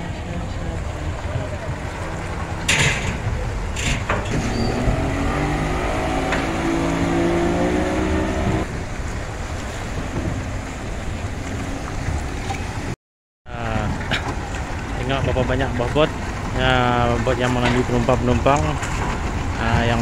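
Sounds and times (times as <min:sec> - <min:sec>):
outboard motors running: 0:00.0 - 0:20.0
water noise: 0:00.0 - 0:20.0.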